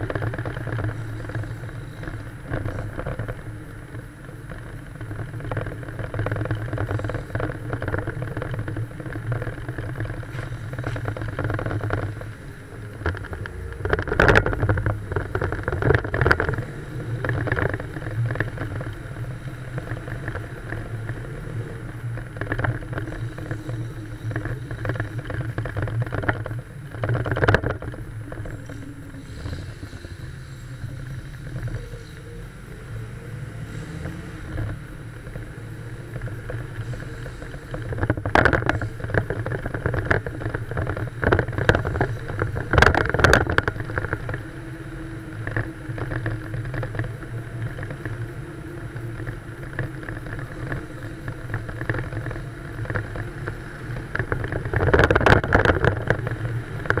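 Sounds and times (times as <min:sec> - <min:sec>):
car engine and exhaust drone: 0:00.0 - 0:57.0
road noise: 0:00.0 - 0:57.0
wind on microphone: 0:00.0 - 0:57.0.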